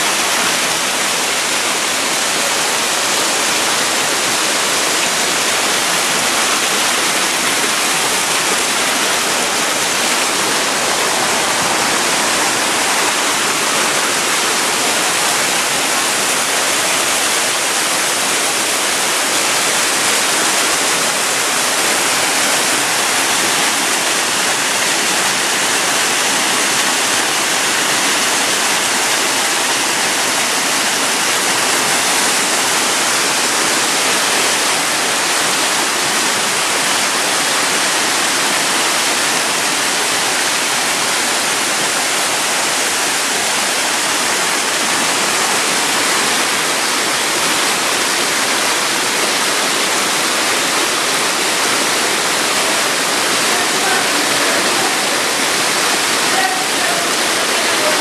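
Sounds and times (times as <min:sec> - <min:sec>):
waterfall pouring over rocks: 0:00.0 - 0:58.0.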